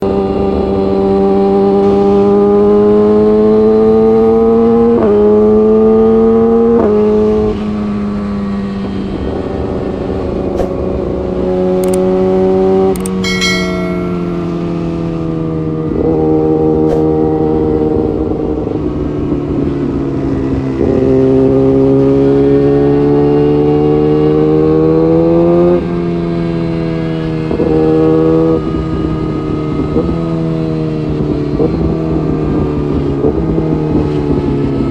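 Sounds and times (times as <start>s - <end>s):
motorcycle engine accelerating through gears: 0.0s - 13.3s, 15.2s - 34.9s.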